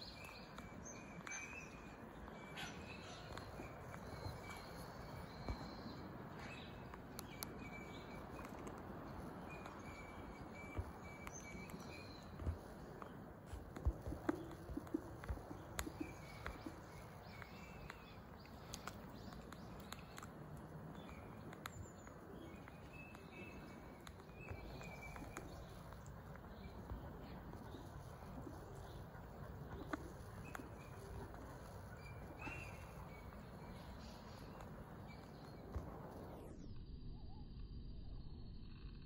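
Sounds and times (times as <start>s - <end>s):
faint high bird calls: 0.0s - 37.7s
outdoor background noise: 0.0s - 39.0s.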